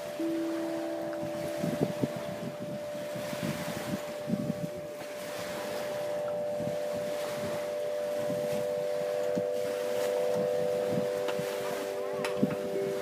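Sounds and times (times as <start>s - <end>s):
wind gusting on microphone: 0.0s - 13.0s
wind harp humming tones: 0.0s - 13.0s.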